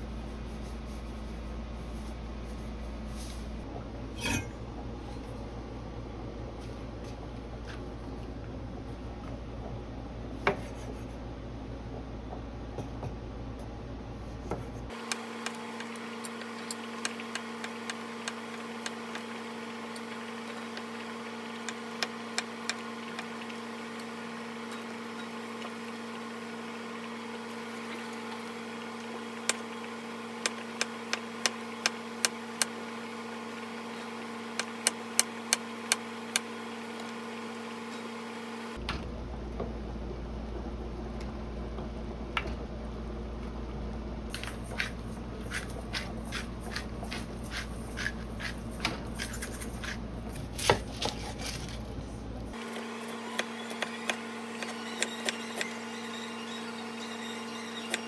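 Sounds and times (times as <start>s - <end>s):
kitchen appliance electric hum: 0.0s - 58.0s.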